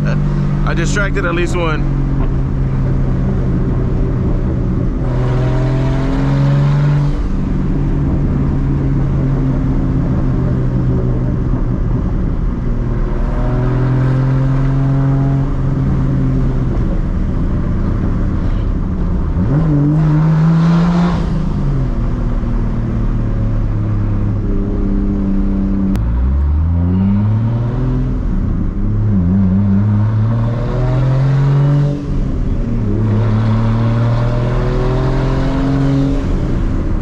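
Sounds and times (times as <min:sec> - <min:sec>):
car exhaust drone from cabin: 0:00.0 - 0:30.9.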